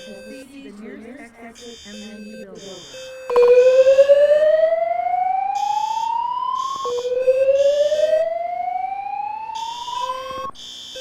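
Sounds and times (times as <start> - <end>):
high-pitched pulsing: 0.0 - 10.6
fire alarm whoop tone: 0.0 - 11.0.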